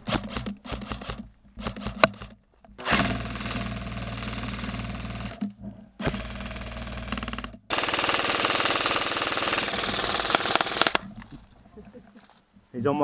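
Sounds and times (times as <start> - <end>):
airsoft rifle full-auto bursts: 0.0 - 5.4, 6.0 - 11.1.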